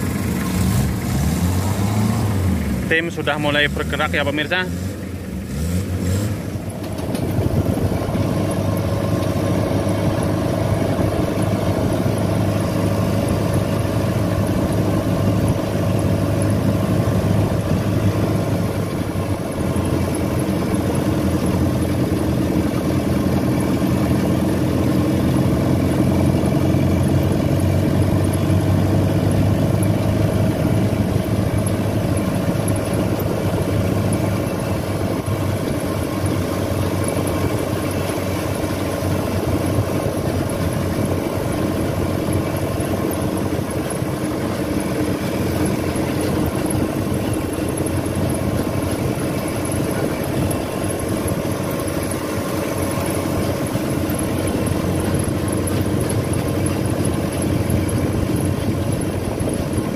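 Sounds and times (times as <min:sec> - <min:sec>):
jeep engine running: 0:00.0 - 0:59.9.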